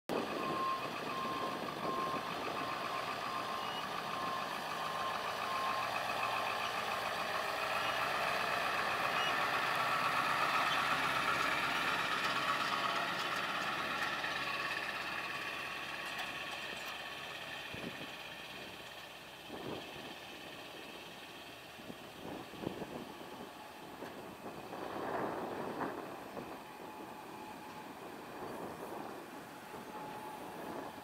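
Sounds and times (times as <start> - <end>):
diesel engine running: 0.1 - 31.0.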